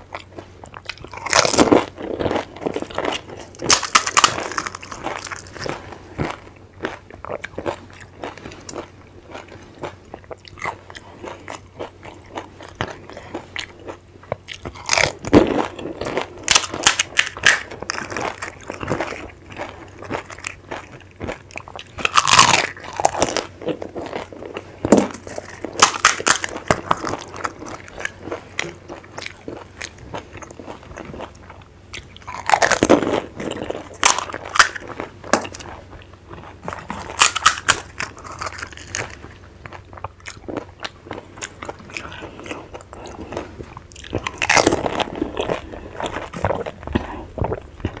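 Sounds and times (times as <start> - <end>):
crisp shells crunched and chewed: 0.1 - 48.0.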